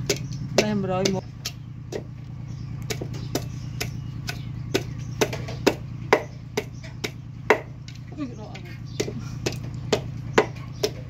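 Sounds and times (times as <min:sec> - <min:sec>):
low engine-like hum: 0:00.0 - 0:11.0.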